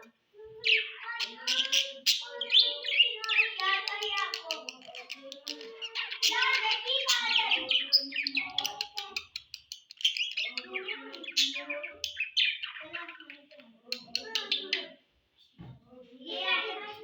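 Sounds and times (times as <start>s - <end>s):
budgerigars chattering: 0.6s - 15.0s.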